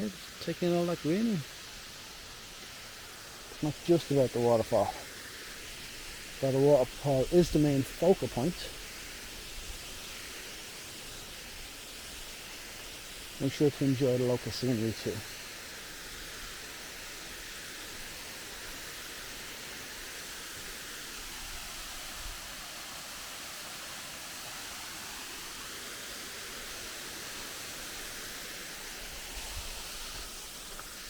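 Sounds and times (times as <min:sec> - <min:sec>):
waterfall rushing roar: 0:00.0 - 0:31.0.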